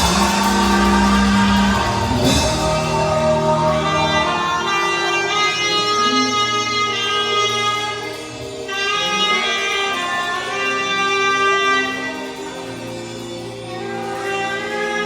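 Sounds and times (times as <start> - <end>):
band accompaniment: 0.0 - 15.0
saxophone long held notes: 0.0 - 15.0.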